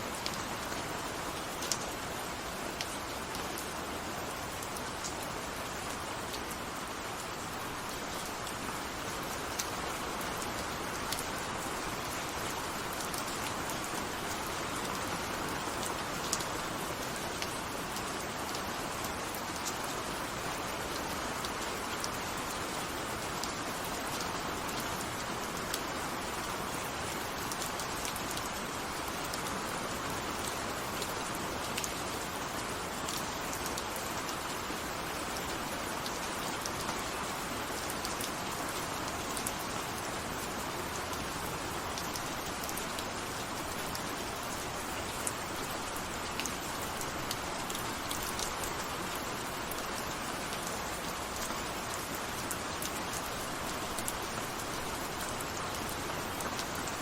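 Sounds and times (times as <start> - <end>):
raindrops ticking on a surface: 0.1 - 57.0.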